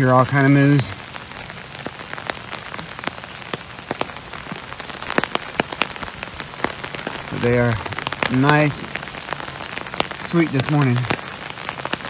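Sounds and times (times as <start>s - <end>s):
raindrop ticks: 0.0s - 12.0s
steady rain hiss: 0.0s - 12.0s.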